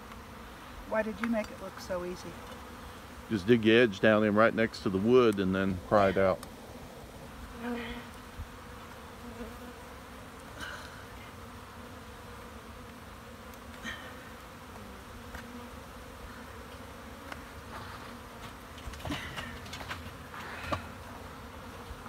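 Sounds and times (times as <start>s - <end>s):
honeybees humming: 0.0s - 22.0s.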